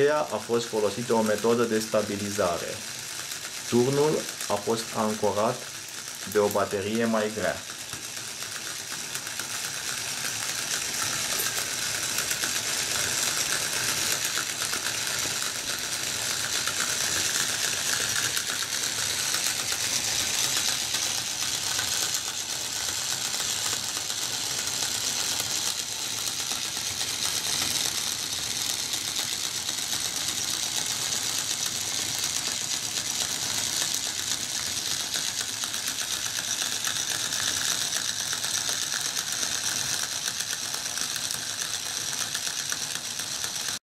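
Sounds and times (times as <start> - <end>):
electric motor gearbox whirring: 0.0 - 43.8.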